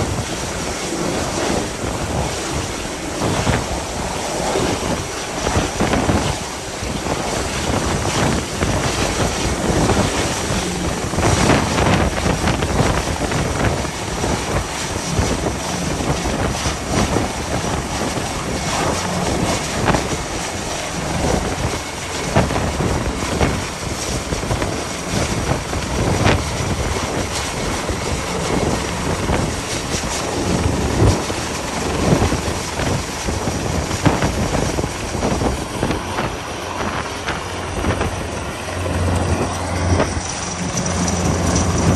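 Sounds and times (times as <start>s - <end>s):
gale wind buffeting microphone: 0.0s - 41.9s
helicopter rotor and engine: 0.0s - 41.9s.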